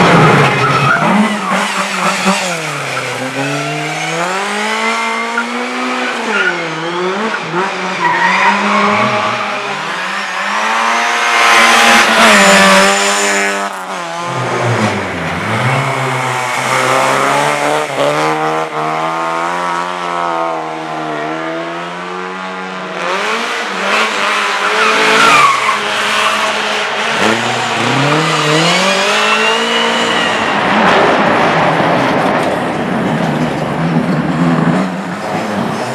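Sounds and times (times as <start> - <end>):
race car engine revving: 0.0 - 35.9.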